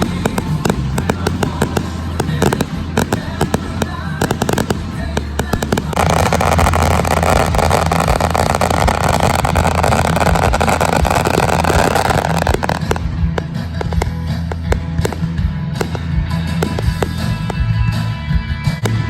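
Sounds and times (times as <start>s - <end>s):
fireworks popping and crackling: 0.0s - 19.0s.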